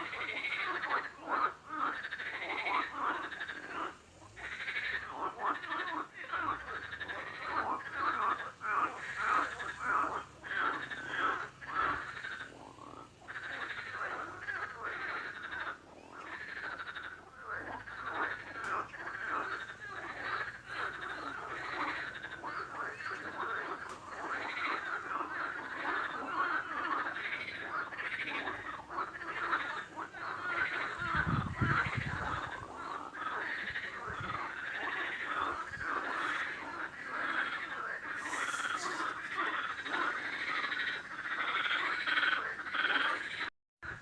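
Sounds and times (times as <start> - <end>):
frogs calling in chorus: 0.0 - 44.0.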